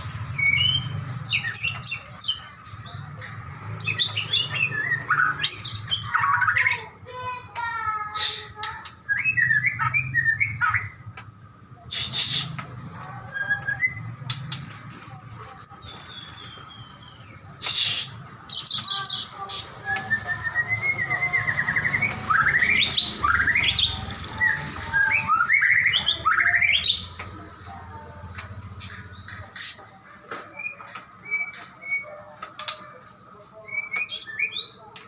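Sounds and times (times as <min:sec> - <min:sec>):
songbird singing: 0:00.0 - 0:11.3, 0:13.2 - 0:35.0
harsh bird calls: 0:00.0 - 0:35.0.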